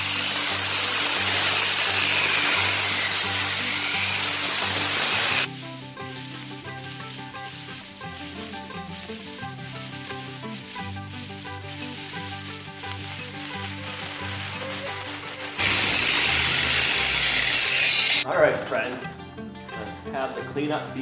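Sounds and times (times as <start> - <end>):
angle grinder sanding wet concrete: 0.0 - 18.2.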